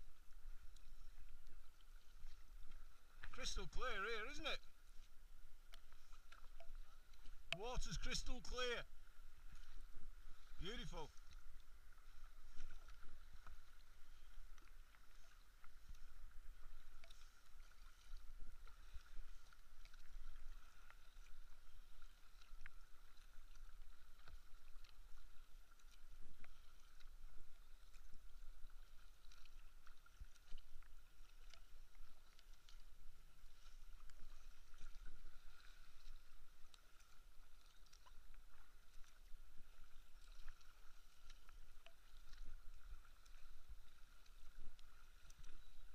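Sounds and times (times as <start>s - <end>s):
faint steady tone: 0.0s - 45.9s
kayak paddle strokes in water: 0.0s - 45.9s
water dripping off paddle: 0.2s - 32.9s, 33.5s - 45.9s.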